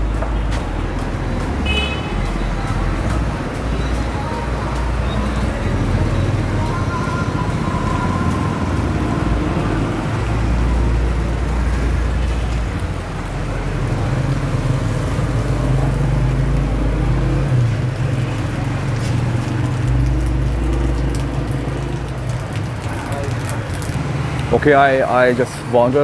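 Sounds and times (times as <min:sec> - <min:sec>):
low traffic rumble: 0:00.0 - 0:26.0
vehicles passing: 0:00.0 - 0:26.0.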